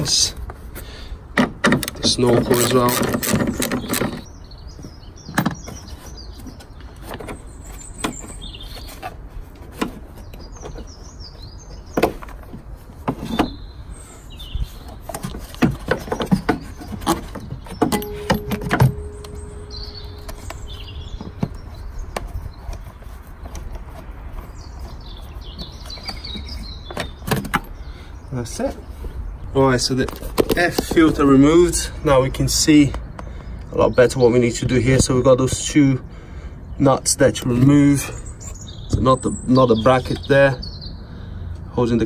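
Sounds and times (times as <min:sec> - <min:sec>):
birds chirping faintly: 0:00.0 - 0:42.0.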